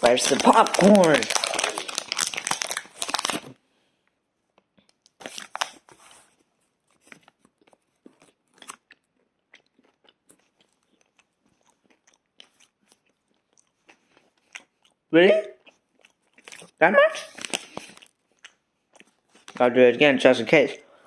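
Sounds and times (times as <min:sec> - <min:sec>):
person crunching popcorn: 0:00.0 - 0:03.6, 0:04.6 - 0:19.6.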